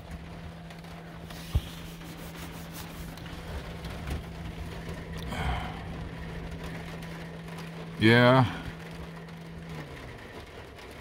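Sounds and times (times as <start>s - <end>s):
low hum: 0.0s - 11.0s
rain pattering on vehicle roof: 0.0s - 11.0s.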